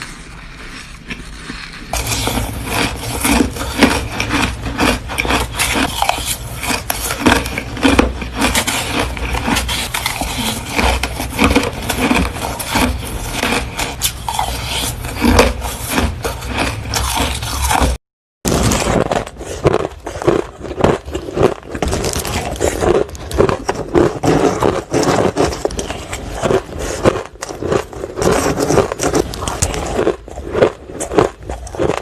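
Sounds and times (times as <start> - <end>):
crushed ice being chewed: 0.0 - 32.0.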